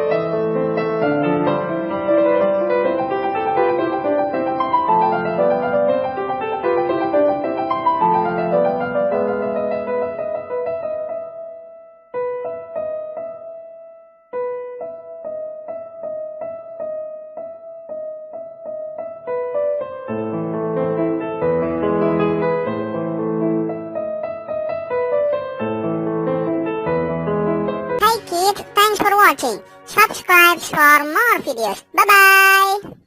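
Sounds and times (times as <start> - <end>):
gentle piano music: 0.0 - 31.6.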